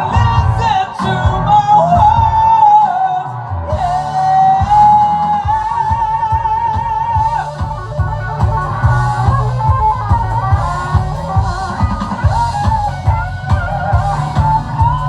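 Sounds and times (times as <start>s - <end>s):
hard rock song: 0.0s - 15.0s.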